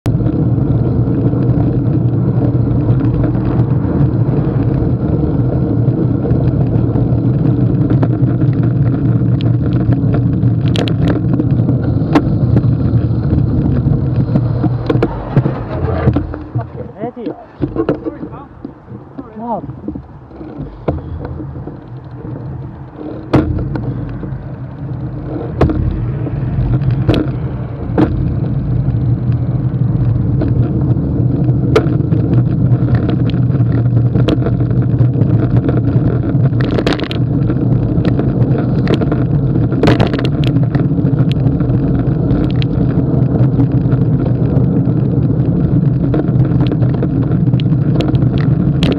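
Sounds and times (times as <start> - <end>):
bicycle knocks and rattles: 0.0 - 48.9
wind and road noise: 0.0 - 48.9.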